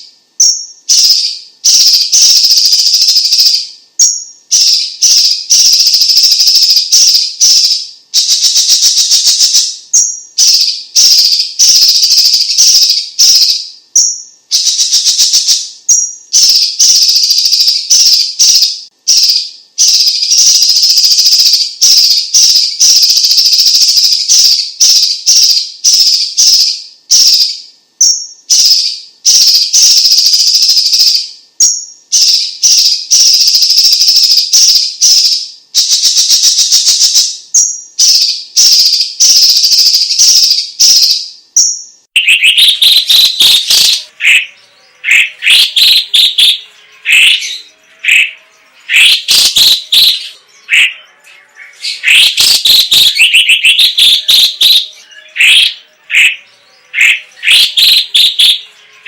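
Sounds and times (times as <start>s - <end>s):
bird singing rapid chattering notes: 0.0s - 59.0s.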